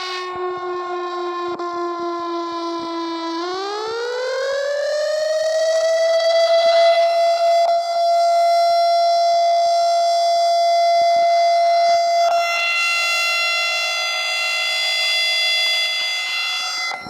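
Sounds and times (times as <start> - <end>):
siren steady buzzy tone: 0.0 - 17.0.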